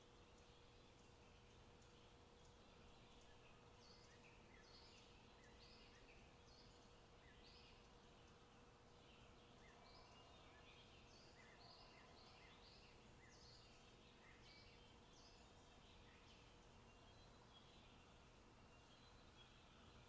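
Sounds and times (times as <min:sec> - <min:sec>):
birds chirping: 0:00.0 - 0:20.0
faint steady tone: 0:00.0 - 0:20.0.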